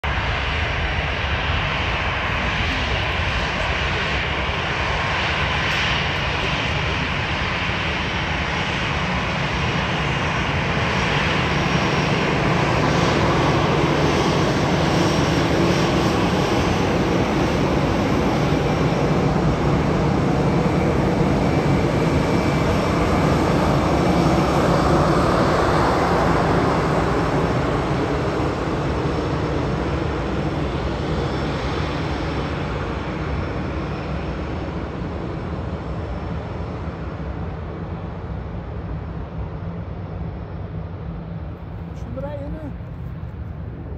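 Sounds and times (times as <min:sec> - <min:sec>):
jet aircraft taxiing: 0:00.0 - 0:43.9.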